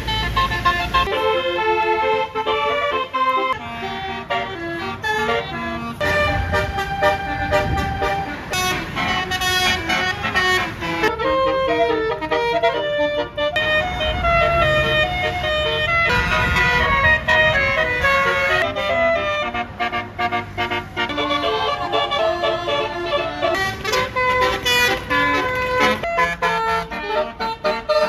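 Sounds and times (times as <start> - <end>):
bus air horn melody: 0.0 - 28.0
bus engine rumble: 0.0 - 28.0.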